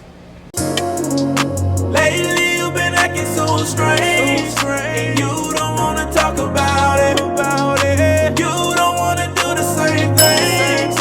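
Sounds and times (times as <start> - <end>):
song with bass and drums: 0.6 - 11.0.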